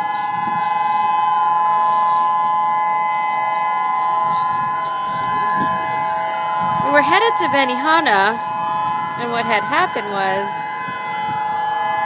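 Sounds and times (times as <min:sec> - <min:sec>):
civil defense siren wailing: 0:00.0 - 0:12.0.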